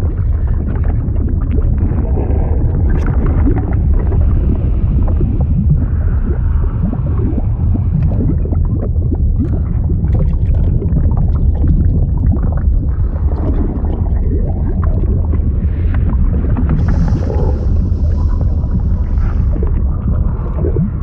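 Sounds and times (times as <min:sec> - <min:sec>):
deep steady rumble: 0:00.0 - 0:21.0
fluid bubbling and gurgling: 0:00.0 - 0:21.0.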